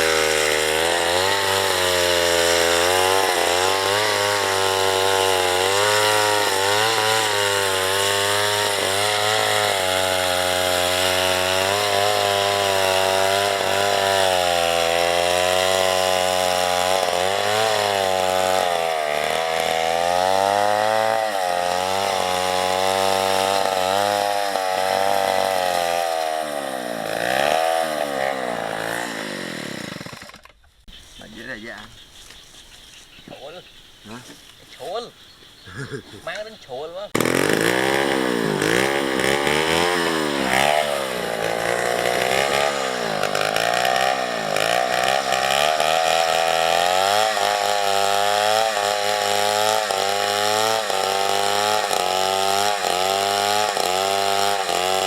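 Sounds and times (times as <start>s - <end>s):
chainsaw cutting wood: 0.0s - 30.6s, 37.1s - 55.0s.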